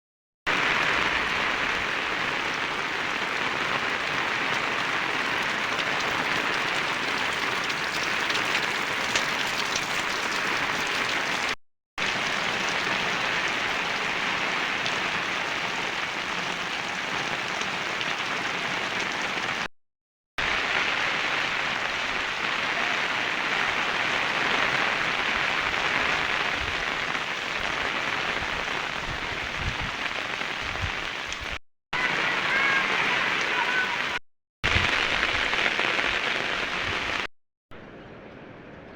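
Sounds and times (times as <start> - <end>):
steady rain: 0.5 - 19.7, 20.4 - 37.3.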